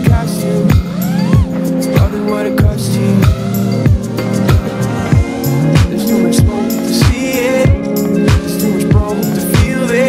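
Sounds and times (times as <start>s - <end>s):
crisp high percussion: 0.0s - 10.0s
sustained chords: 0.0s - 10.0s.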